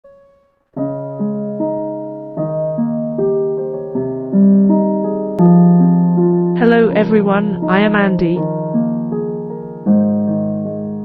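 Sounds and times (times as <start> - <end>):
slow electric piano music: 0.0 - 11.0.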